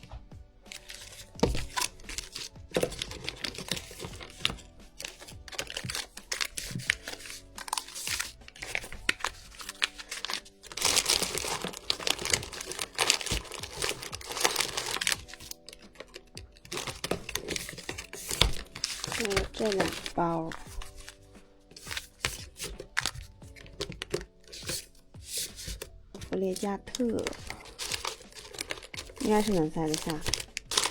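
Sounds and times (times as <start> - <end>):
background music: 0.0 - 30.9
packets crinkling and rustling: 0.0 - 30.9.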